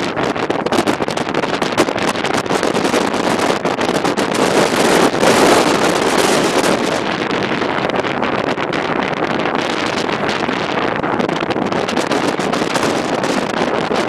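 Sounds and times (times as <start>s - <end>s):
strong gusting wind on microphone: 0.0s - 14.0s.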